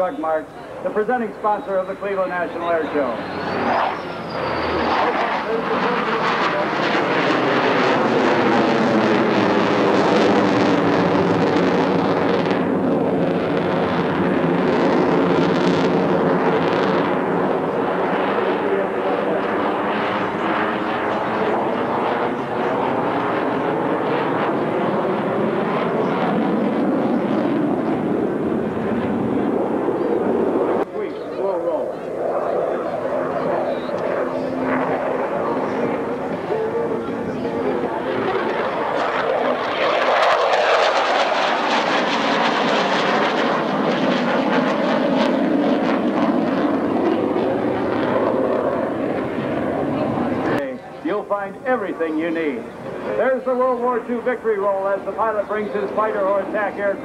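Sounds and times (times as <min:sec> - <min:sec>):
military aircraft engines: 0:00.0 - 0:57.0.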